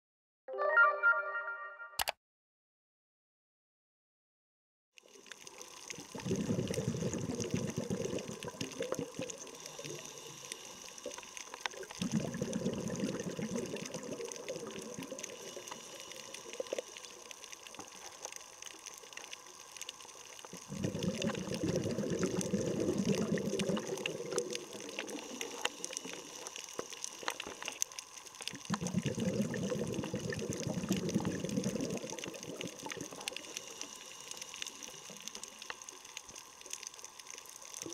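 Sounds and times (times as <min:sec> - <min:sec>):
faint underwater clicks: 0:05.0 - 0:37.9
underwater hiss: 0:05.5 - 0:37.9.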